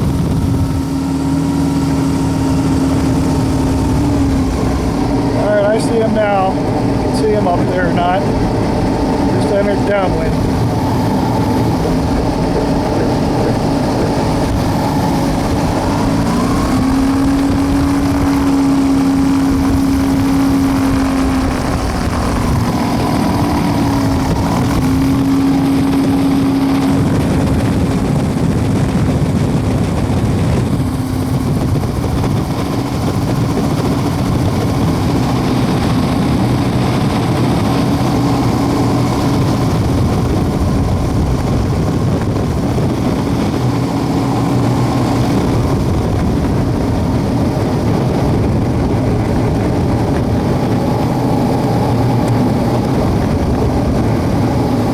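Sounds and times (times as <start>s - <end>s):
propeller aircraft engine humming: 0.0s - 54.9s.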